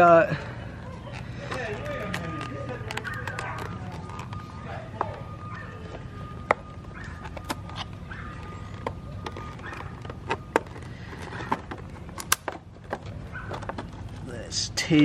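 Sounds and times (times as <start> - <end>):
packaging being handled: 1.0 - 14.3.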